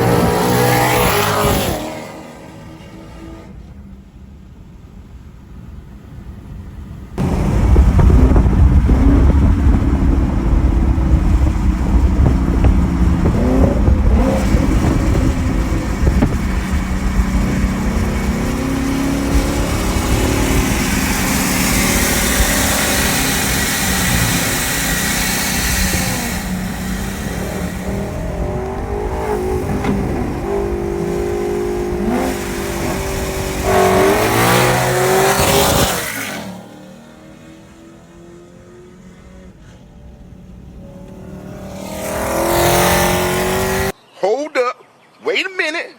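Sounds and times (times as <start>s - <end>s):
cars accelerating hard: 0.0s - 4.0s, 7.2s - 44.0s.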